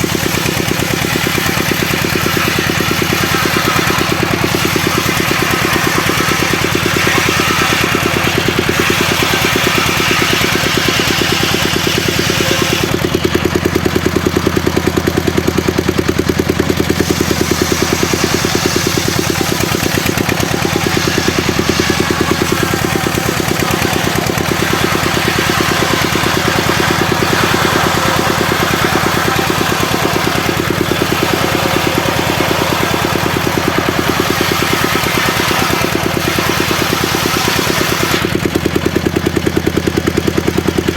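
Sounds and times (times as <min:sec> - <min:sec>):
engine chugging: 0:00.0 - 0:40.9.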